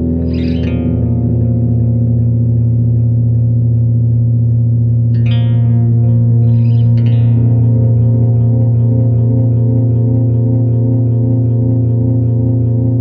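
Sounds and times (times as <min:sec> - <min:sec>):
electric guitar with delay: 0:00.0 - 0:13.0.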